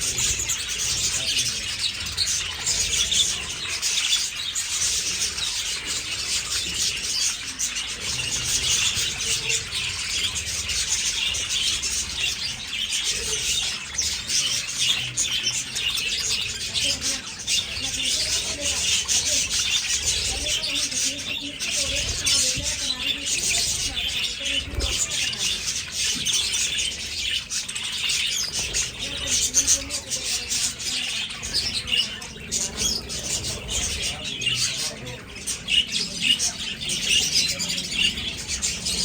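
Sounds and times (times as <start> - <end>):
budgerigars chattering: 0.0 - 39.0.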